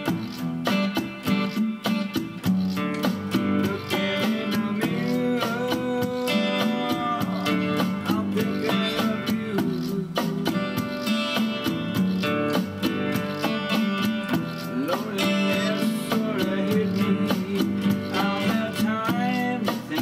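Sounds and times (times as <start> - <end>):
strummed acoustic guitar song: 0.0 - 20.0.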